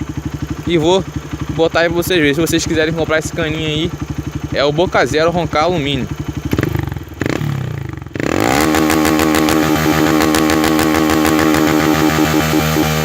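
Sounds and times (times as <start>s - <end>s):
motorcycle engine revving at limiter: 0.0s - 13.0s.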